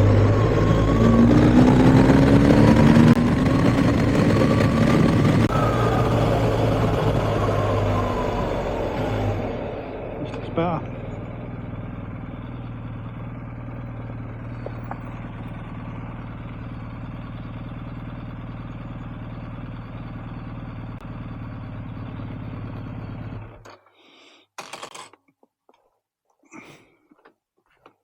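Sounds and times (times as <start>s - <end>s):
motorcycle engine running: 0.0s - 23.7s.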